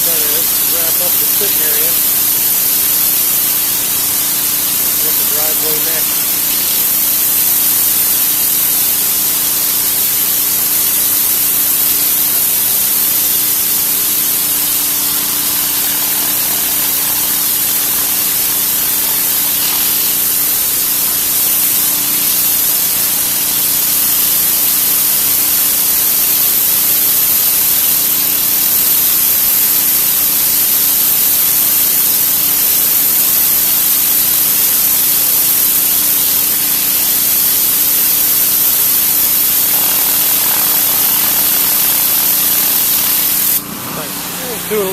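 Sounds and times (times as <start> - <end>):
pressure washer jet hissing on concrete: 0.0 - 44.9
pressure washer motor hum: 0.0 - 44.9.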